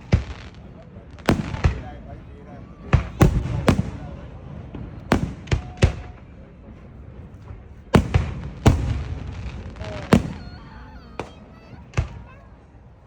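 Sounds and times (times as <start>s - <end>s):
fireworks exploding: 0.0s - 12.8s.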